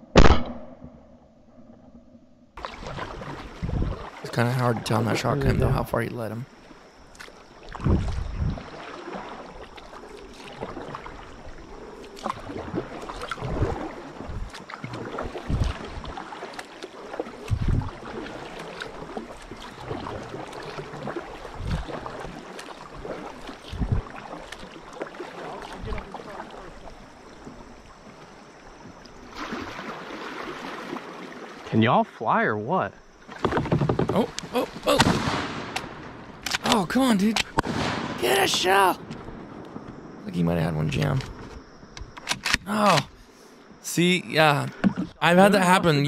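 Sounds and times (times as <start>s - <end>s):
kayak paddle splashing: 2.6s - 5.8s, 6.4s - 31.8s, 33.0s - 46.0s.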